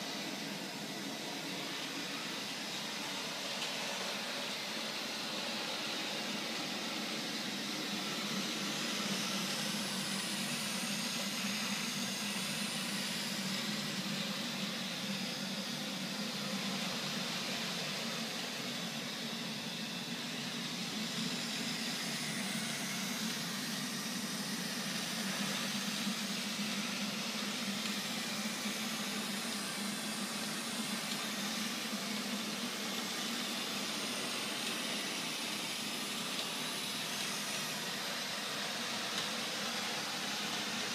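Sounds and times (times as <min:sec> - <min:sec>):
robot vacuum cleaner running: 0:00.0 - 0:40.9.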